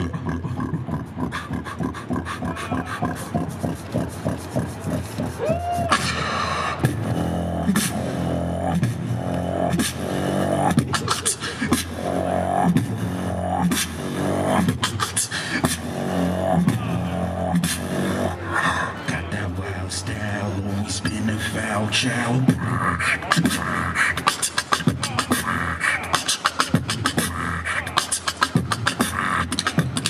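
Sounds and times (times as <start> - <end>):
beatboxing through a microphone: 0.0 - 30.0
pitched vocal sounds: 0.0 - 30.0.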